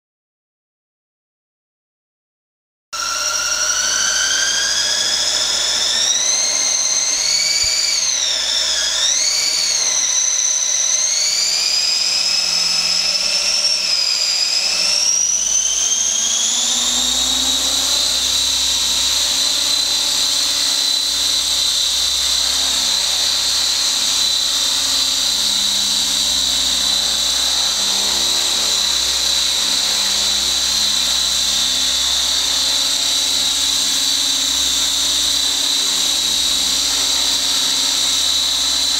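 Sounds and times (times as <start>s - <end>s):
rc helicopter motor whining: 3.0s - 38.9s.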